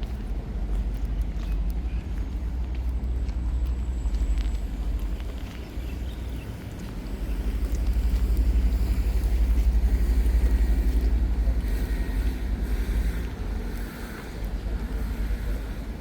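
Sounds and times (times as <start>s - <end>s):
vehicle passing on street: 0.0s - 16.0s.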